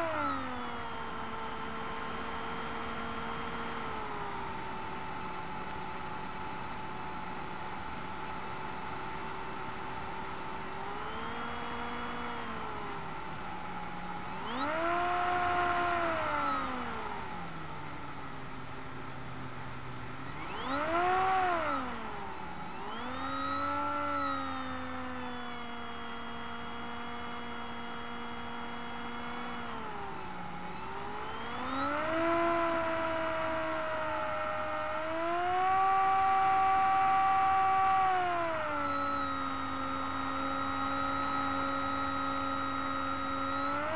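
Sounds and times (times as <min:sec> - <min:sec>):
model plane motor whining: 0:00.0 - 0:05.7, 0:10.2 - 0:43.9.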